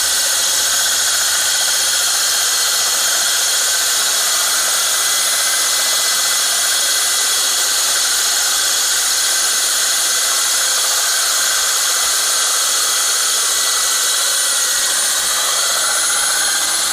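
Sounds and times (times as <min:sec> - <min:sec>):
rotary hammer grinding concrete: 0:00.0 - 0:16.9.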